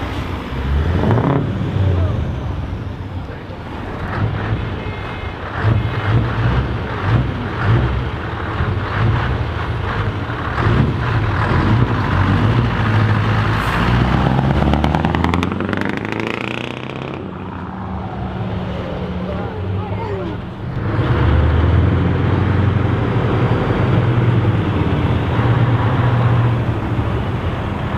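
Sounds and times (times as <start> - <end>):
heavy truck engines running: 0.0 - 27.9
truck engine revving: 0.0 - 27.9.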